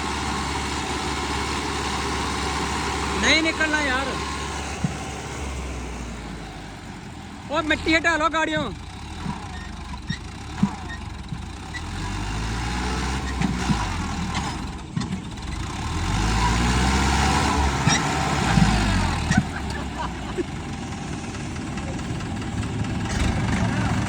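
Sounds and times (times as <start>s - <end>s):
tractor diesel engine revving: 0.0s - 24.0s.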